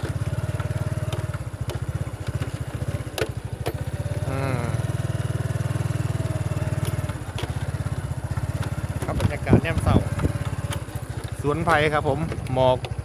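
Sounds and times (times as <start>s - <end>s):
small engine chugging: 0.0s - 13.0s.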